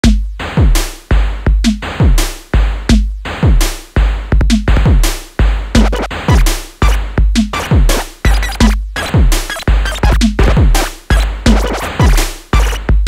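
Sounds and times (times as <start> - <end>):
electronic music with drum-machine beat: 0.0 - 13.0.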